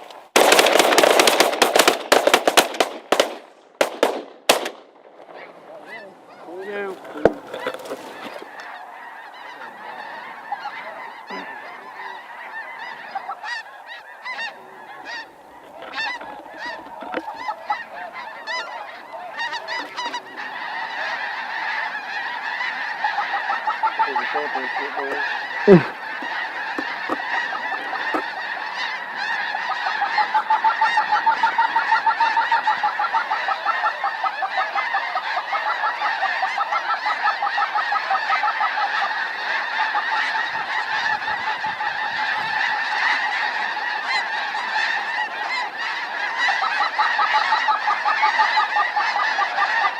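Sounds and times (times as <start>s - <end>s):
flock of geese calling: 0.0s - 49.9s.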